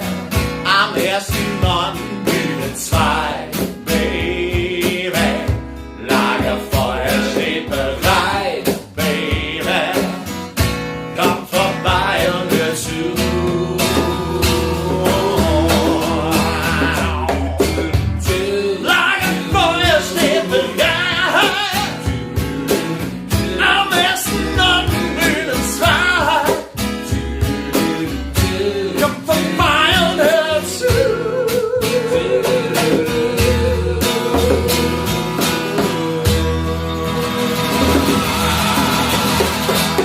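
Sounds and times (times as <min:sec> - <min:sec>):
acoustic guitar: 0:00.0 - 0:40.0
person singing: 0:00.7 - 0:10.2, 0:11.2 - 0:40.0.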